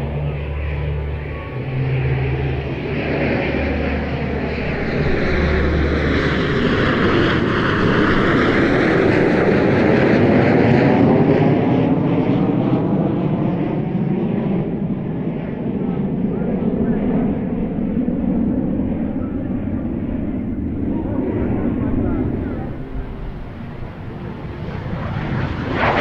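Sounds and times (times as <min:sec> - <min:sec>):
jets flying over: 0:00.0 - 0:26.0.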